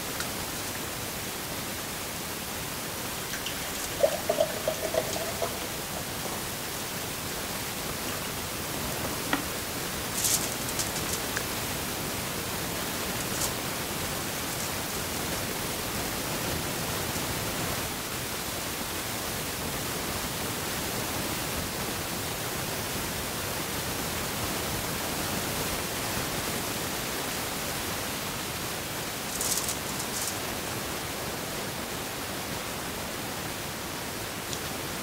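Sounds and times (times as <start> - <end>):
background hiss: 0.0 - 35.0.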